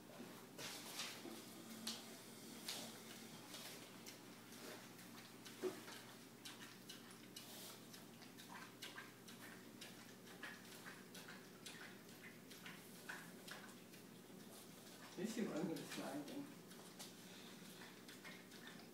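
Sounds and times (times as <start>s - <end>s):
dog eating from metal bowl: 2.6s - 18.9s.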